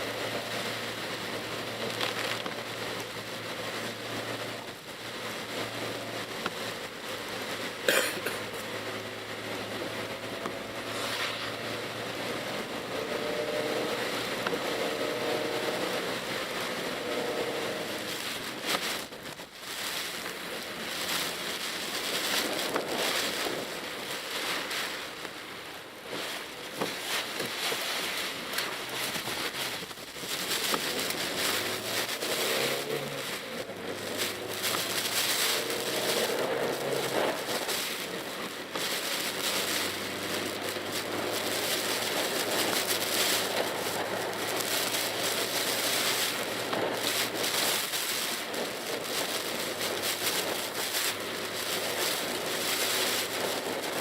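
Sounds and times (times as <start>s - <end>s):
car engine: 0.0s - 24.6s, 25.2s - 54.0s
tyre spray and rain hiss: 0.0s - 54.0s.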